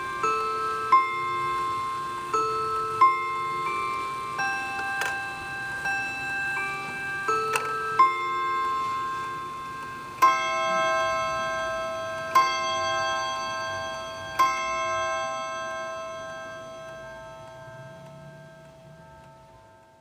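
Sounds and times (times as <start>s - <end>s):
clock gong strikes: 0.0s - 20.0s.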